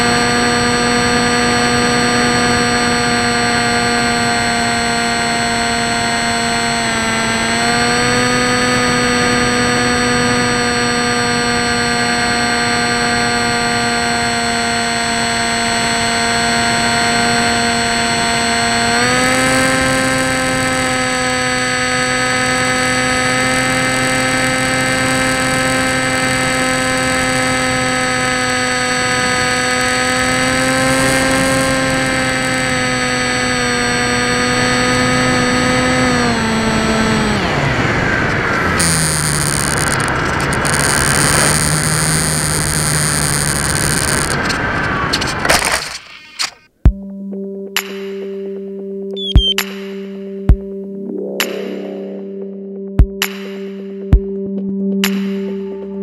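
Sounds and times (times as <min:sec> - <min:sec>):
electric motor and propeller whine: 0:00.0 - 0:46.7.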